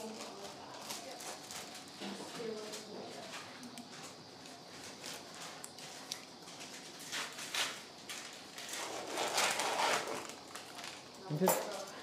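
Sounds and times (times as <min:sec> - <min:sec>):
rustling of materials being handled: 0:00.0 - 0:12.0.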